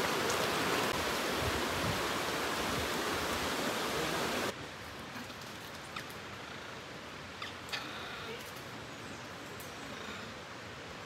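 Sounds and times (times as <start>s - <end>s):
stream running over stones: 0.0s - 9.0s.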